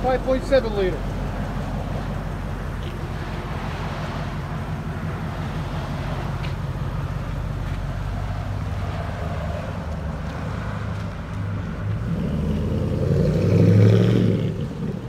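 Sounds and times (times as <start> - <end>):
pickup engine deep rumble: 0.0 - 15.0.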